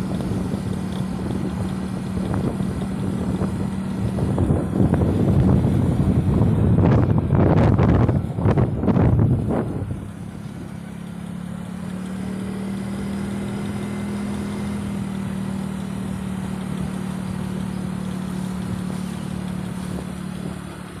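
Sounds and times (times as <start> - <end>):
motorcycle engine cruising: 0.0 - 21.0
wind buffeting microphone: 0.0 - 21.0.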